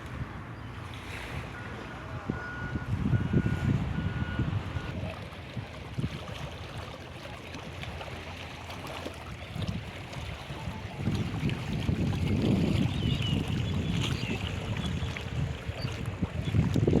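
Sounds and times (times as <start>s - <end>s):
wind buffeting microphone: 0.0s - 6.8s, 9.3s - 17.0s
flowing stream water: 0.0s - 17.0s.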